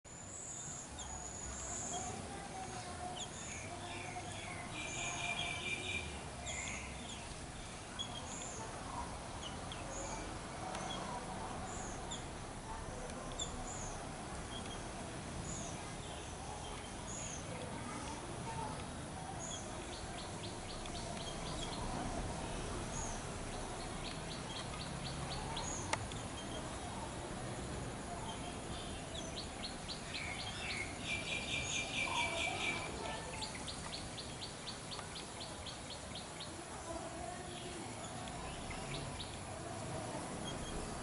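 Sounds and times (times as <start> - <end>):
outdoor background noise: 0.0 - 41.0
birds chirping: 0.1 - 41.0.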